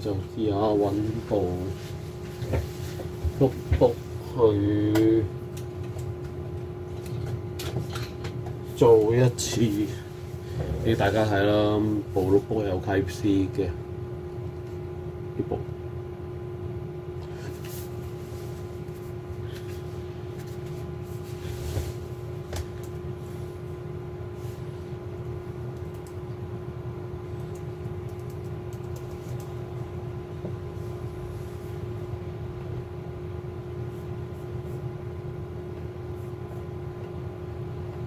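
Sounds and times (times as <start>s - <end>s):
background hum with low rumble: 0.0s - 38.0s.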